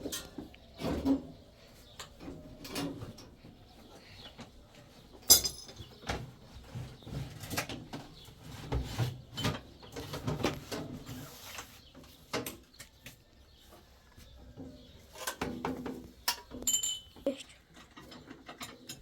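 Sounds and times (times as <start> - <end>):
knocks and clatter of handling: 0.0 - 19.0.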